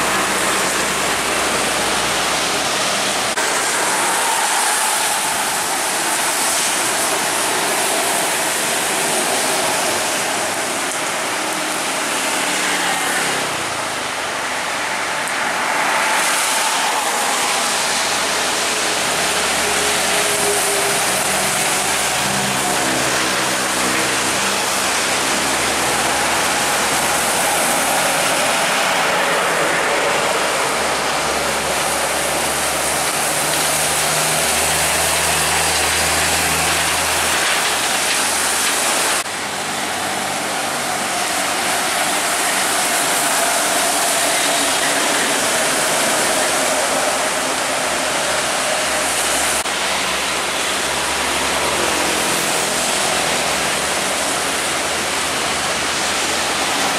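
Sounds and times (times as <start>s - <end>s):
rain and tyres on wet road: 0.0s - 56.9s
truck engines droning: 0.0s - 56.9s.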